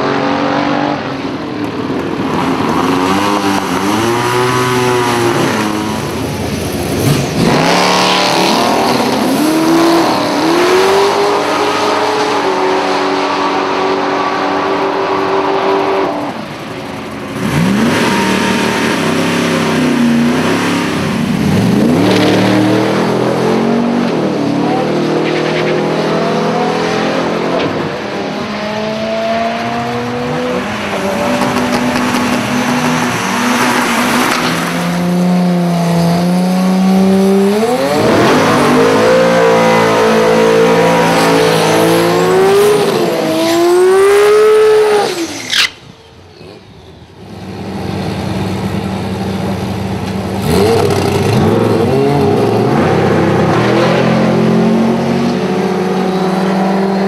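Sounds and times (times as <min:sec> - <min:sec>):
racing car engines at full throttle: 0:00.0 - 0:57.0.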